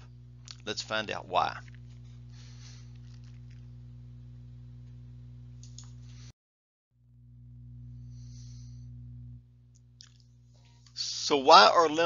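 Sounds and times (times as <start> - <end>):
low electrical hum: 0.0 - 6.3, 7.0 - 12.0.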